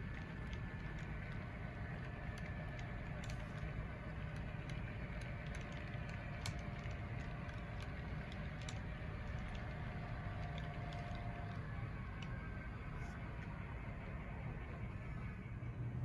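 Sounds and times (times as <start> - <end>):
model train rumbling: 0.0 - 15.7
faint steady tones: 0.0 - 16.0.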